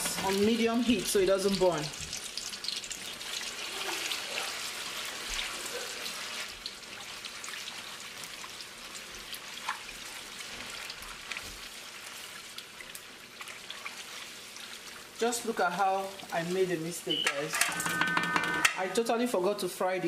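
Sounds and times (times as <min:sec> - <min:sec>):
paste sizzling in hot oil: 0:00.0 - 0:17.2.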